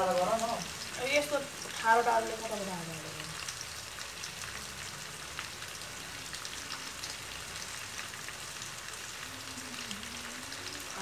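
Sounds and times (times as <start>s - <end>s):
peels sizzling in oil: 0.0s - 11.0s.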